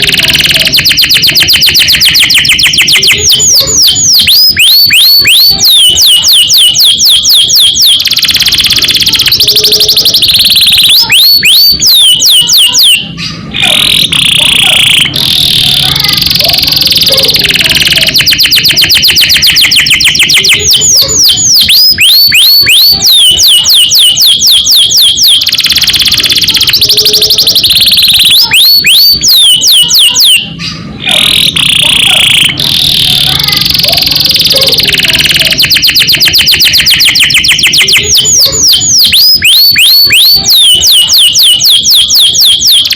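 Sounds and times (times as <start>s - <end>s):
canary singing: 0.0s - 42.9s.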